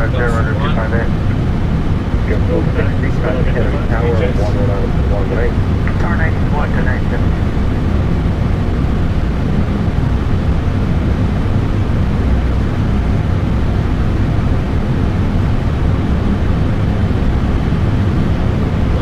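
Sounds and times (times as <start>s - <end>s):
aircraft airflow and engine rumble: 0.0s - 19.0s.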